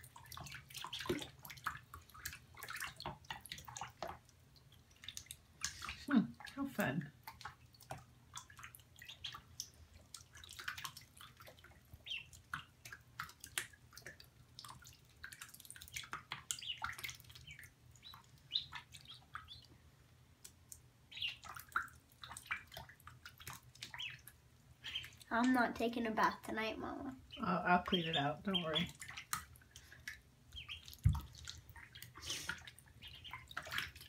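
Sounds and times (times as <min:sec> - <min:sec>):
water drips and splashes: 0:00.0 - 0:34.0
ducklings peeping: 0:00.1 - 0:03.9, 0:08.4 - 0:19.8, 0:21.1 - 0:29.3, 0:30.0 - 0:34.0.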